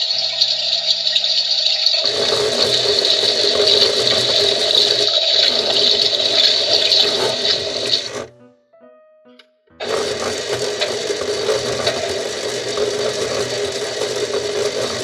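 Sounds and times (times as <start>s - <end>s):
toy washing machine hissing: 0.0s - 8.3s, 9.8s - 15.0s.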